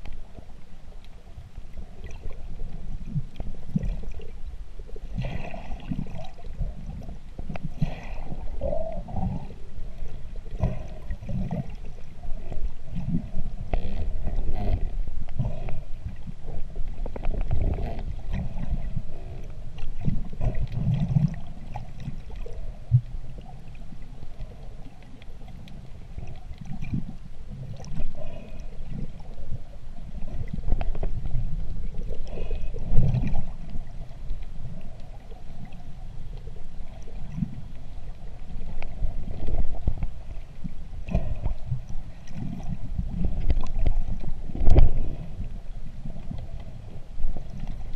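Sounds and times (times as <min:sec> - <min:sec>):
muffled underwater water movement: 0:00.0 - 0:47.9.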